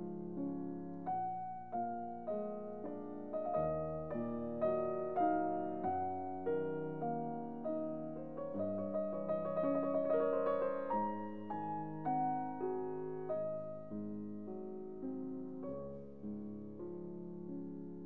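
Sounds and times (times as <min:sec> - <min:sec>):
slow gentle piano notes: 0:00.0 - 0:18.0.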